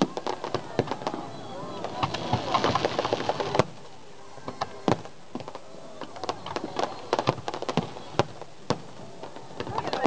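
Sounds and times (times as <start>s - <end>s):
firework bangs: 0.0s - 10.0s
fireworks popping and crackling: 0.0s - 10.0s.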